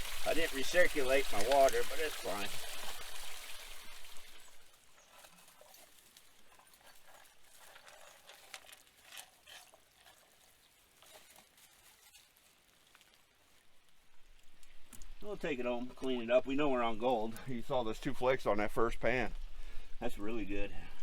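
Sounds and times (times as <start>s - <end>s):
water trickling and tapping: 0.0s - 11.7s, 14.1s - 19.8s
water and gravel pouring: 0.0s - 20.6s.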